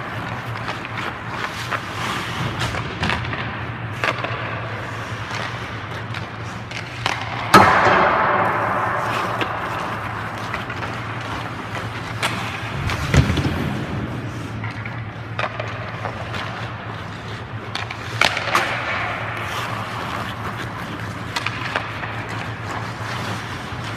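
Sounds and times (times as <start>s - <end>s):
pucks hitting the boards: 0.0s - 23.9s
skates scraping on ice: 0.0s - 23.9s
steady low hum: 0.0s - 23.9s
sticks striking pucks: 0.0s - 23.9s.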